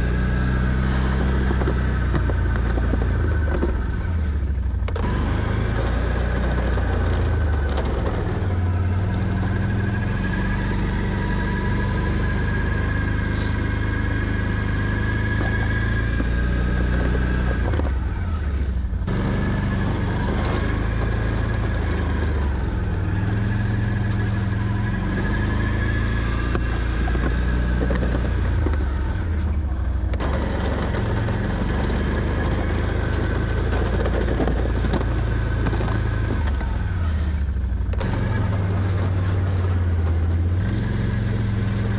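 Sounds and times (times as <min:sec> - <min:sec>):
atv engine revving under load: 0:00.0 - 0:41.9.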